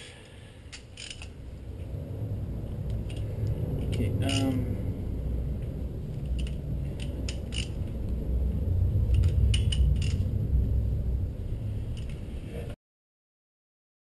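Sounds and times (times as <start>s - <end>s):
low steady rumble: 0.0s - 12.8s.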